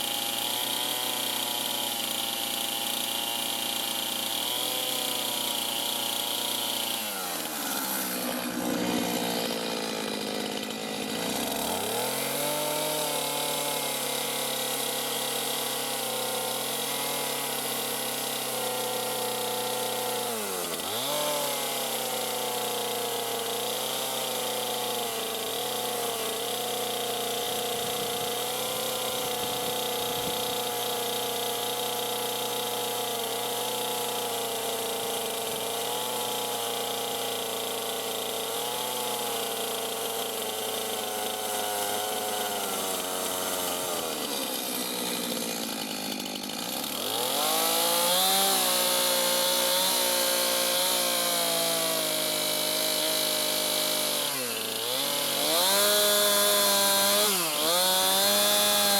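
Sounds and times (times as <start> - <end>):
chainsaw cutting into log: 0.0 - 58.9.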